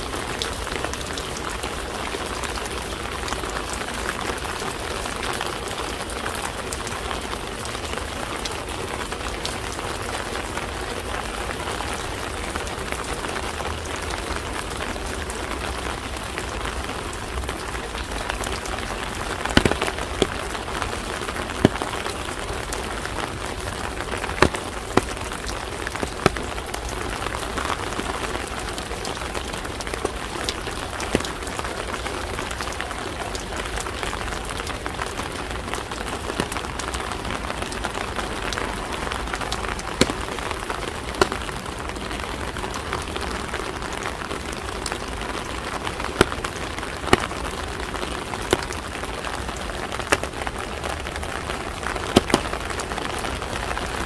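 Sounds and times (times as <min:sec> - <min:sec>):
heavy raindrops ticking: 0:00.0 - 0:54.0
rain on hard surfaces: 0:00.0 - 0:54.0.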